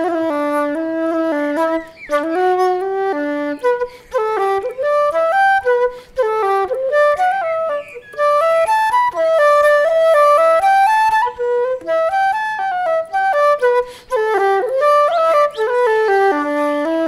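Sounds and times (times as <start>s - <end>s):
solo flute-like woodwind melody: 0.0s - 17.0s.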